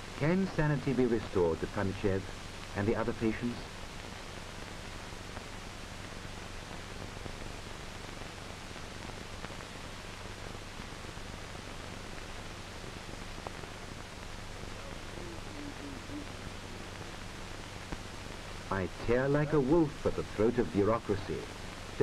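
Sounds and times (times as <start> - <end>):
film soundtrack hiss and hum: 0.0 - 22.0.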